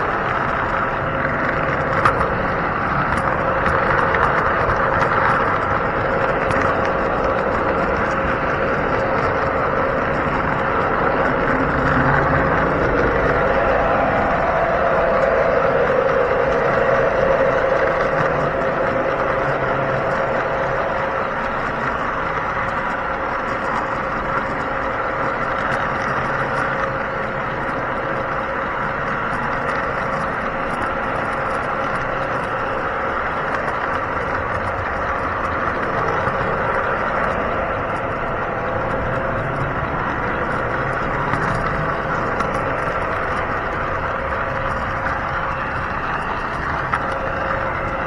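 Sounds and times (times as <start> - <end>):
model train hum and rumble: 0.0 - 48.0.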